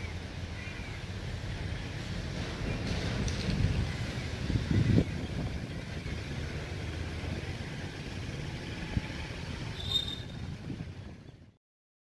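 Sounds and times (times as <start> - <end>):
low outdoor rumble: 0.0 - 11.6.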